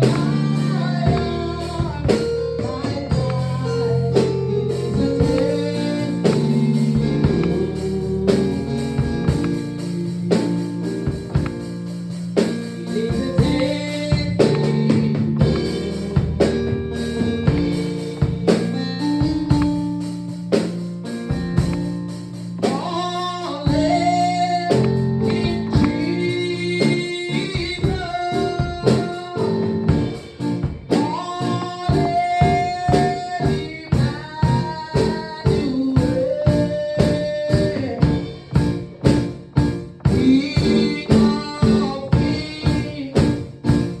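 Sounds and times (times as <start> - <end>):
person singing long notes: 0.0 - 11.5, 12.8 - 19.9, 22.6 - 30.2, 30.9 - 39.0, 40.0 - 43.6
gospel band playing: 0.0 - 44.0.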